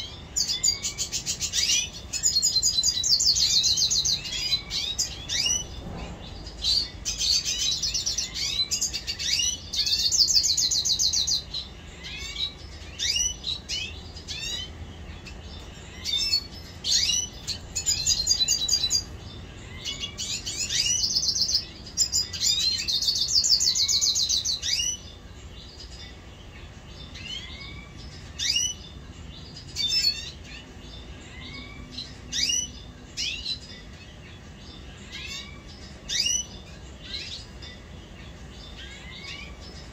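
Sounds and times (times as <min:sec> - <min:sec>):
birds chirping: 0:00.0 - 0:39.9
birds trilling: 0:00.0 - 0:39.9.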